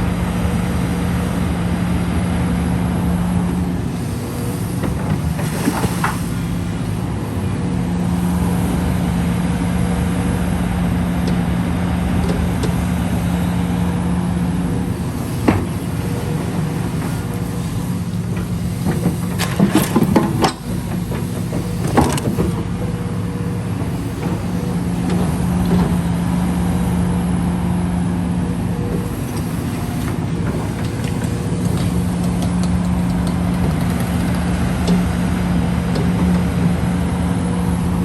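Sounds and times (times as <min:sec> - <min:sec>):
heavy machine engine running: 0:00.0 - 0:38.0.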